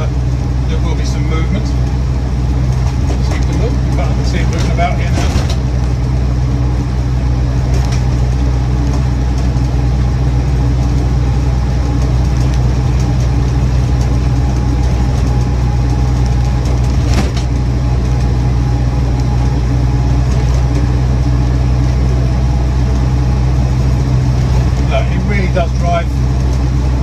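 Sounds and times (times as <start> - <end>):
car engine running while driving: 0.0 - 27.0
road noise: 0.0 - 27.0.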